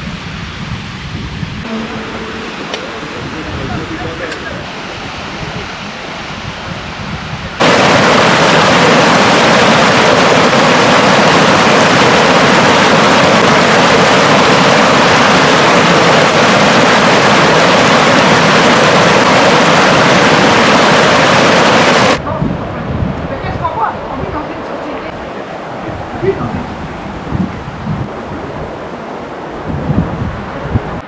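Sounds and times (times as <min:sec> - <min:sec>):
waterfall rushing: 0:01.6 - 0:22.2, 0:23.8 - 0:30.8.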